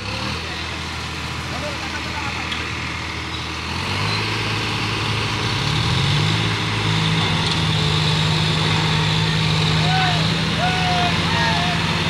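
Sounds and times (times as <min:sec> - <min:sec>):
tractor engines revving: 0:00.0 - 0:12.0.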